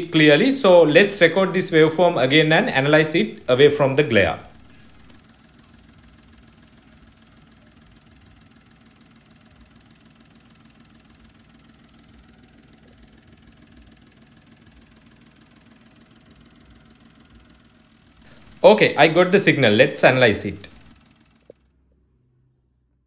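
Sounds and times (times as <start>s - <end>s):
small car engine idling: 0.0s - 21.7s.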